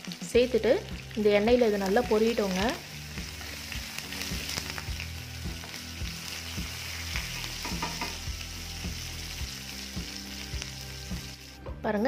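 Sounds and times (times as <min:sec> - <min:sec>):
seeds sizzling in hot oil: 0:00.0 - 0:11.7.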